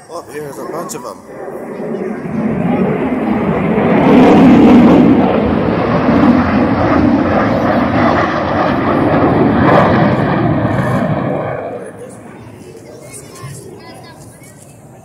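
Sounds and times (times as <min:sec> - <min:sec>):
military jets flying past: 0:00.0 - 0:15.0.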